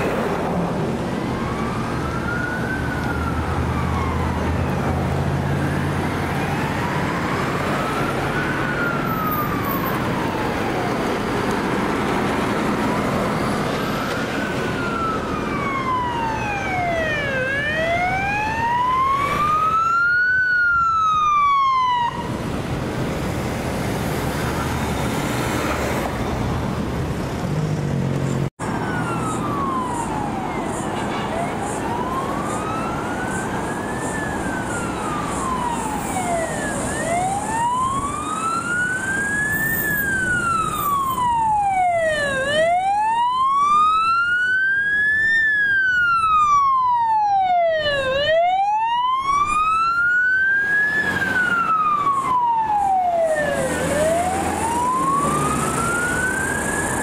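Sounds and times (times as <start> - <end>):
fire truck siren wailing: 0.0 - 26.1, 28.6 - 57.0
road traffic noise: 0.0 - 57.0.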